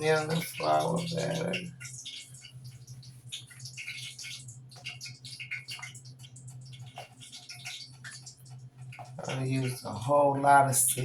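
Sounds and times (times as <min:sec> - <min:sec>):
kitchen taps clicks and rustles: 0:00.2 - 0:09.9.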